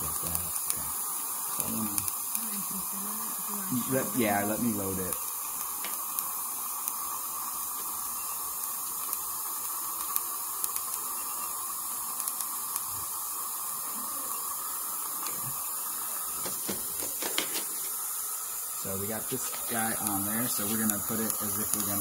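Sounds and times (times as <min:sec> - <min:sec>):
dental suction hissing: 0:00.0 - 0:22.0.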